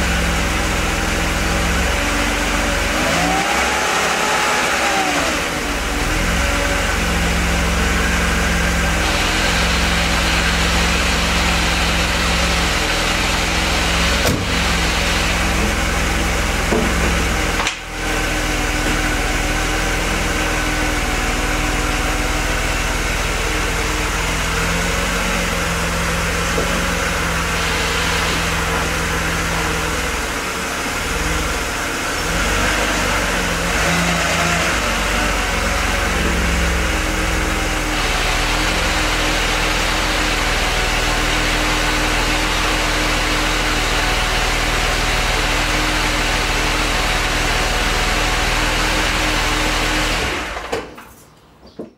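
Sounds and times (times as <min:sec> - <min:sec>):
car engine idling: 0:00.0 - 0:50.6.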